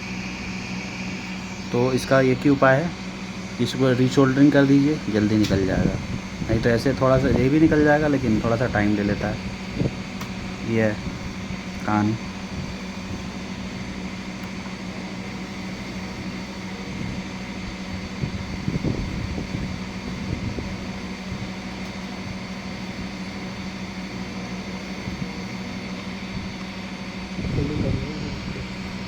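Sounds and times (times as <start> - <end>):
hot air station blowing: 0.0 - 29.0.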